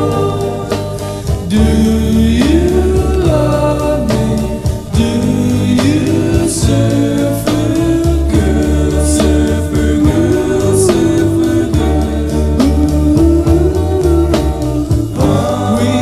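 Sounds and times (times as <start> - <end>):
person singing long notes: 0.0 - 16.0
steady bass beat: 0.0 - 16.0.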